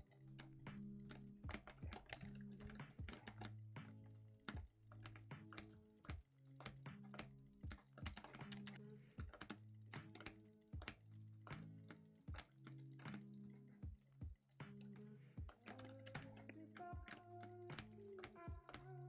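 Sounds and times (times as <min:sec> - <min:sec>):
sharp irregular clicks: 0:00.0 - 0:19.0.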